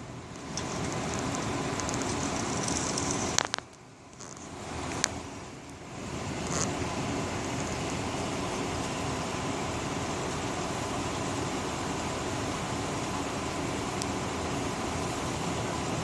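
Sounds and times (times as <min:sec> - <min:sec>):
heavy rain and wind: 0:00.0 - 0:16.0.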